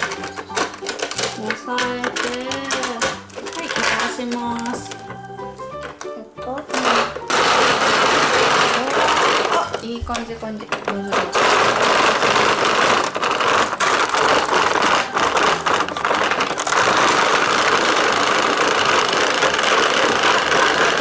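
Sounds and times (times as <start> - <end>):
hand grinder crunching cornflakes: 0.0 - 21.0.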